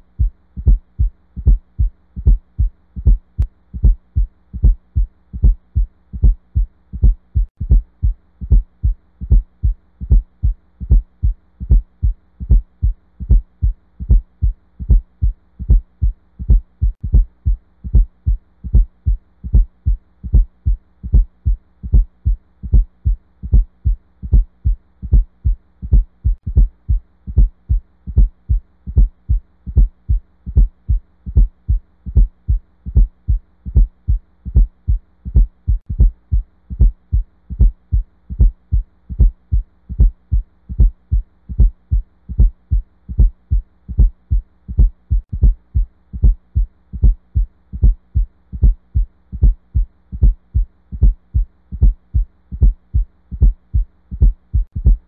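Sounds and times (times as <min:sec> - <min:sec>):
faint steady hum: 0:00.0 - 0:55.0
heartbeat with gallop rhythm: 0:00.0 - 0:55.0.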